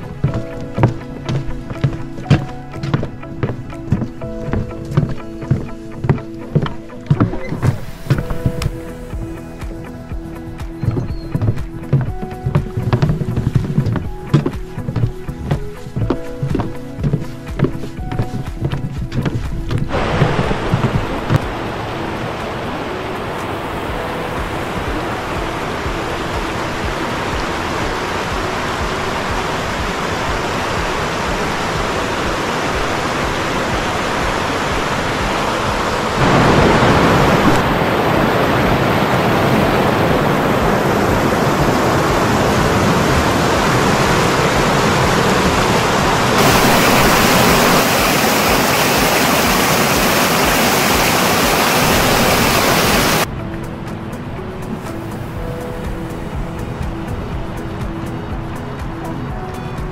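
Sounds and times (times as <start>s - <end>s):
river water rushing: 0.0s - 59.5s.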